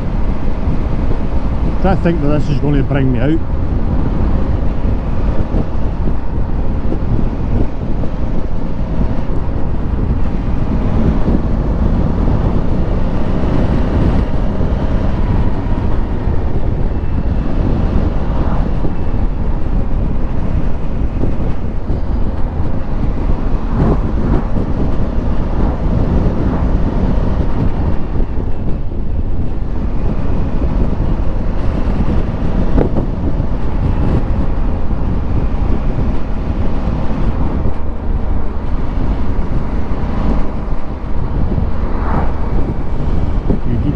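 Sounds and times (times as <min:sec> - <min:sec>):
wind rush over helmet microphone: 0:00.0 - 0:43.9.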